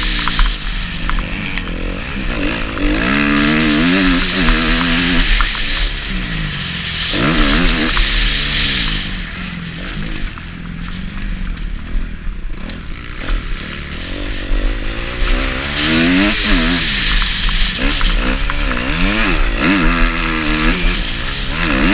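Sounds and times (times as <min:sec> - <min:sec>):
motocross bike engine revving: 0:00.0 - 0:21.9.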